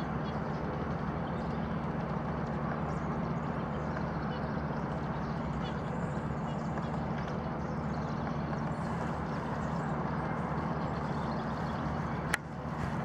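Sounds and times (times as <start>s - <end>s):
background rumble with low hum: 0.0s - 13.0s.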